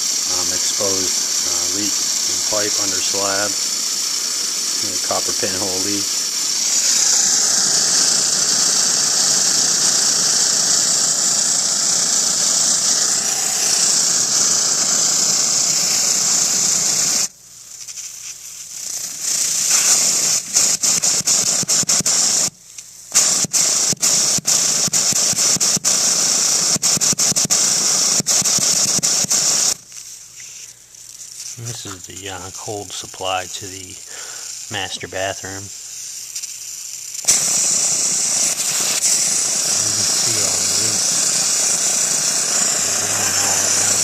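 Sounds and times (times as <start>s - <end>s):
water hissing from leaking pipe: 0.0s - 21.3s, 29.0s - 44.0s.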